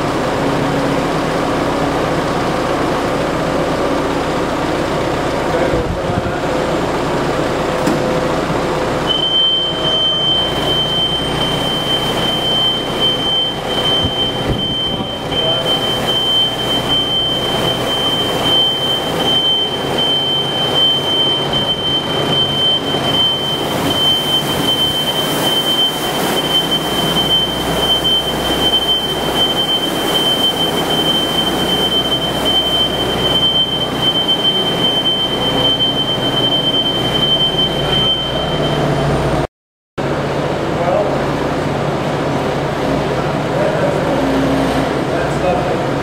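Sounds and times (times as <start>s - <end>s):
steady high whine: 0.0s - 44.4s.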